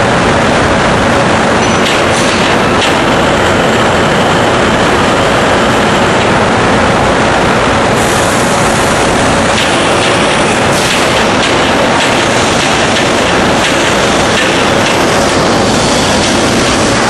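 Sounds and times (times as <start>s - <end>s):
machining center running: 0.0s - 17.0s.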